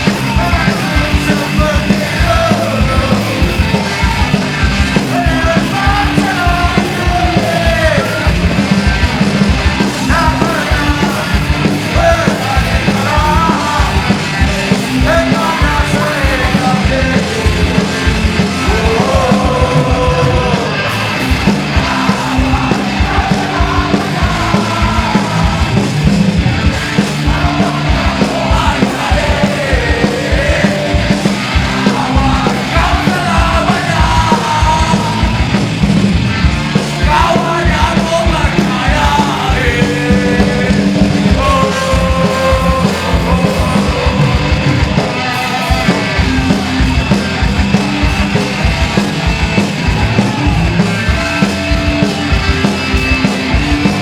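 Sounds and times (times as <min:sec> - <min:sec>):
shouted vocals: 0:00.0 - 0:35.8, 0:36.4 - 0:54.0
live punk rock band: 0:00.0 - 0:54.0.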